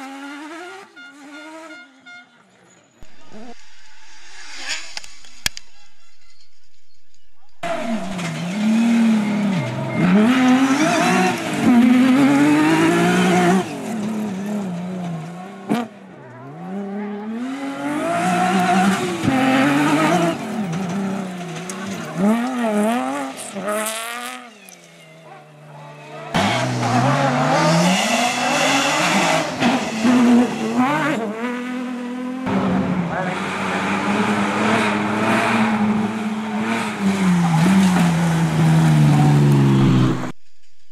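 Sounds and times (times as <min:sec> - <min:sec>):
racing buggy engines revving: 0:00.0 - 0:02.0, 0:07.4 - 0:40.4.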